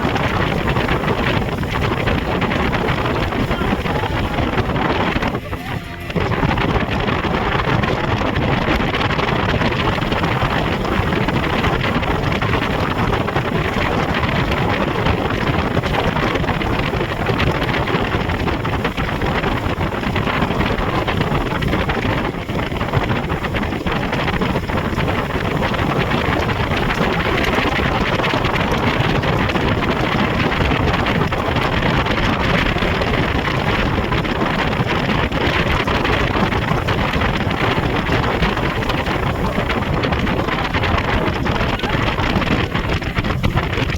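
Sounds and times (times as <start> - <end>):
rush of water: 0.0 - 43.9
speedboat motor: 0.0 - 43.9
wind buffeting on microphone: 0.0 - 43.9.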